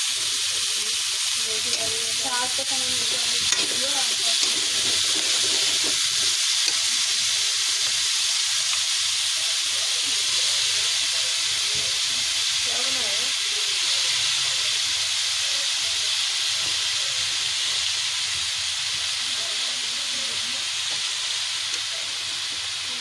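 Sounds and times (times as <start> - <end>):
greens sizzling in hot oil: 0.0 - 23.0.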